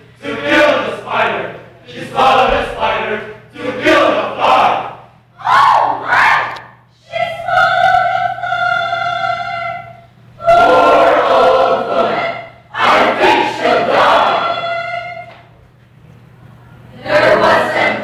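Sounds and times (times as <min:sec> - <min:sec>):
group of voices singing: 0:00.0 - 0:15.5, 0:16.9 - 0:18.0.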